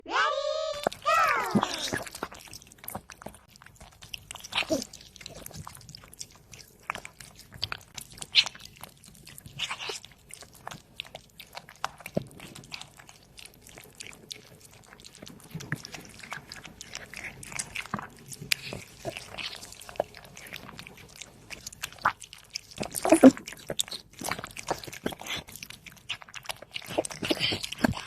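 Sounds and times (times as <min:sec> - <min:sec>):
cat chewing and crunching food: 0:00.8 - 0:28.0.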